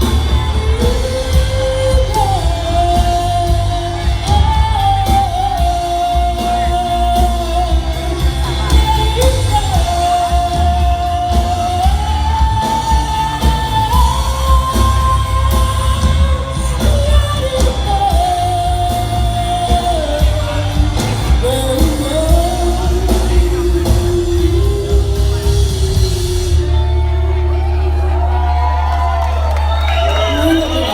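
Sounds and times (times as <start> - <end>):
person singing long notes: 0.0 - 27.2
bass: 0.0 - 30.9
drums: 0.0 - 30.9.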